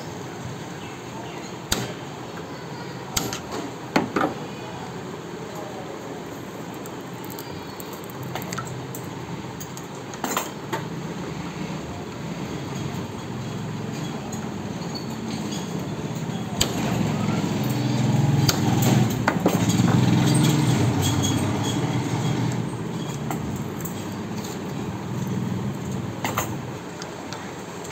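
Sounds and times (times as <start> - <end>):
low mechanical hum: 0.0 - 27.9.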